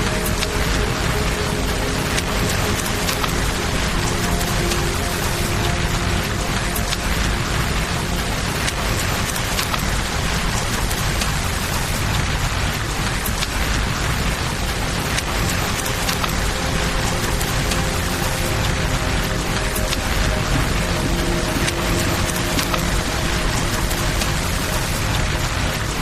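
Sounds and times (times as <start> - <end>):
flowing river: 0.0 - 26.0
low constant rumble: 0.0 - 26.0
steady rain: 0.0 - 26.0
campfire crackling and popping: 0.1 - 26.0.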